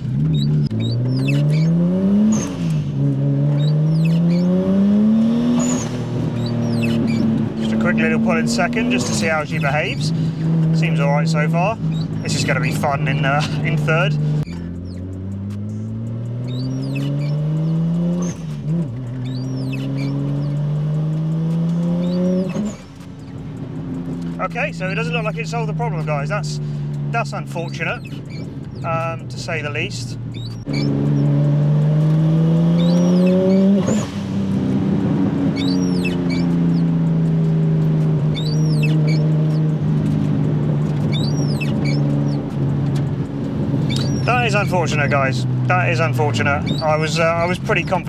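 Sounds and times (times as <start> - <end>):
car engine accelerating: 0.0 - 48.0
windscreen wipers squeaking: 0.0 - 48.0.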